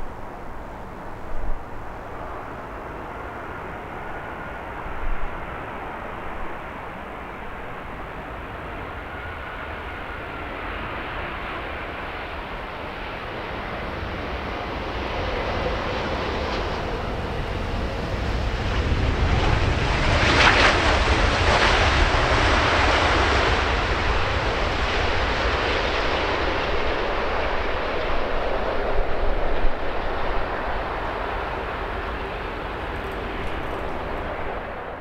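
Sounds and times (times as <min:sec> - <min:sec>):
jet airliner passing low: 0:00.0 - 0:35.0.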